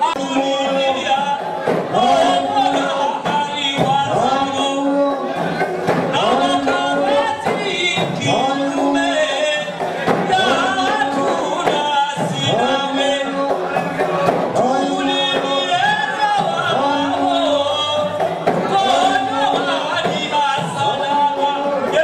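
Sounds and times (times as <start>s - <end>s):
voices singing together: 0.0s - 22.0s.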